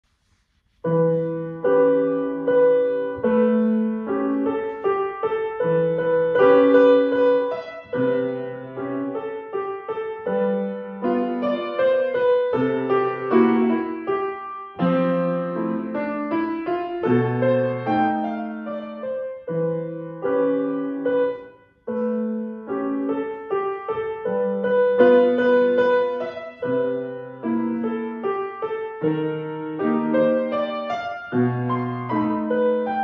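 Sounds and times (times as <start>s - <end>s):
slow solo piano piece: 0.1s - 33.0s.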